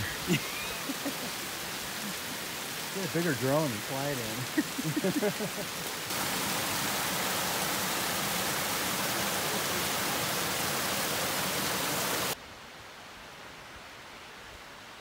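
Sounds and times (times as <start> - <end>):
waterfall rushing: 0.0 - 12.4
faint hiss: 0.0 - 15.0.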